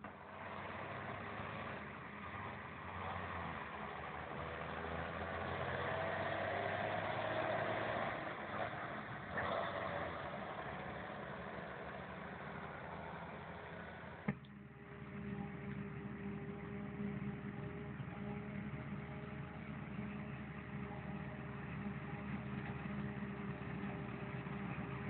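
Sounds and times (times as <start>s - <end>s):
tractor driving past: 0.0s - 25.0s.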